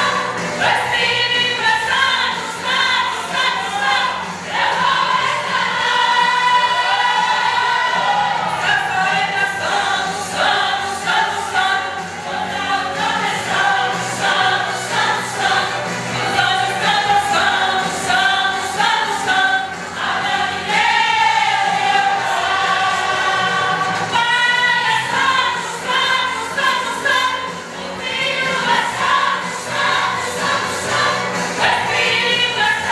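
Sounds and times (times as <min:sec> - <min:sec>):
vocal group singing a hymn: 0:00.0 - 0:32.9.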